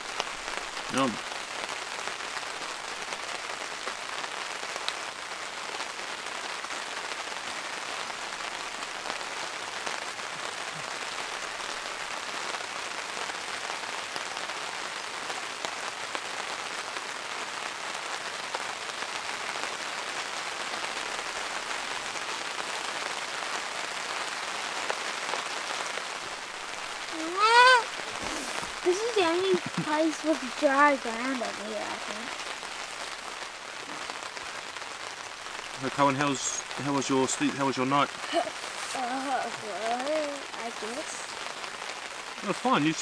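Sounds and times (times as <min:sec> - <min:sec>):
rain on a tarp: 0:00.0 - 0:43.0.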